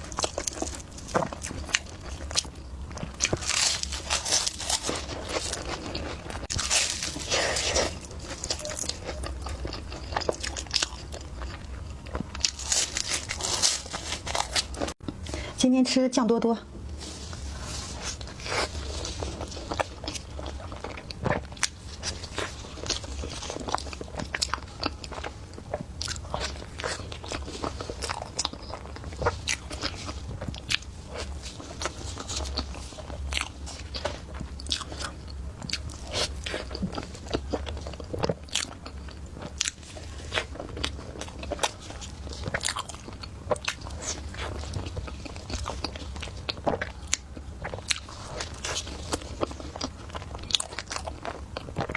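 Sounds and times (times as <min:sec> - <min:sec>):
person chewing crunchy food: 0:00.0 - 0:15.6, 0:16.9 - 0:51.9
low steady hum: 0:00.0 - 0:51.9.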